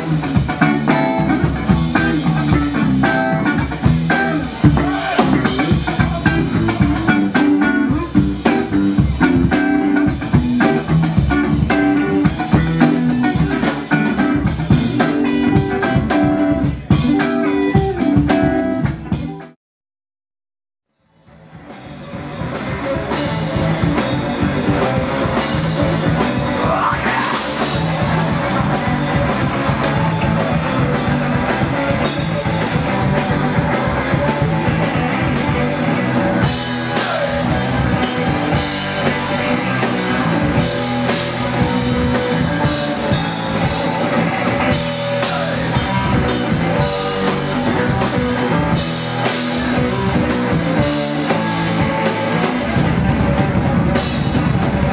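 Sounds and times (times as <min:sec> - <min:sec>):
drum kit: 0:00.0 - 0:19.6, 0:21.2 - 0:54.9
electric guitars: 0:00.0 - 0:19.6, 0:21.2 - 0:54.9.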